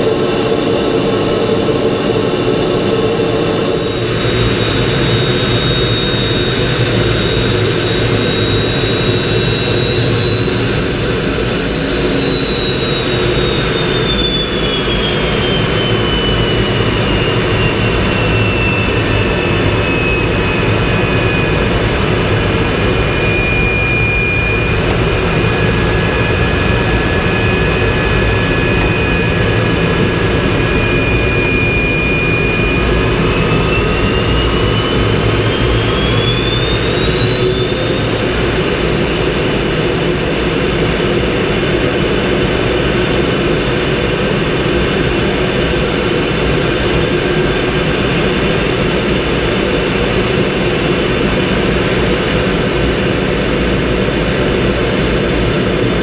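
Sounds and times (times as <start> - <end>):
jet engine rush and turbine whine: 0.0 - 56.0.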